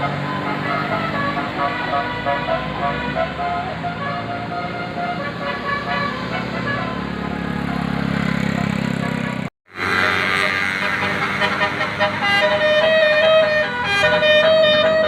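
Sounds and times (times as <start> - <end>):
bus engine running: 0.0 - 15.0
bus horn playing a tune: 0.0 - 15.0.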